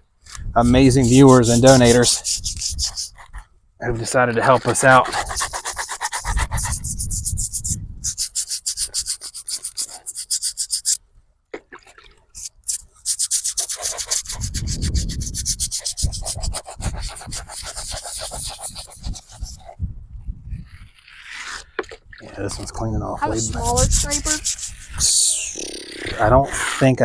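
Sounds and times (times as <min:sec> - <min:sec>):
scraper scraping stone: 0:00.3 - 0:11.0, 0:11.9 - 0:19.8, 0:20.6 - 0:21.9, 0:23.2 - 0:25.4.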